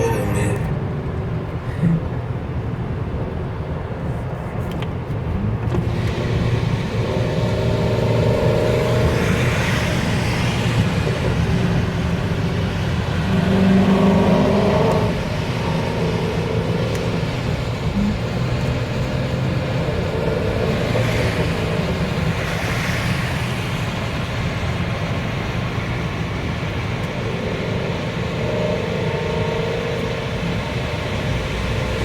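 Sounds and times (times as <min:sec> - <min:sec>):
car exhaust under hard acceleration: 0:00.0 - 0:32.0.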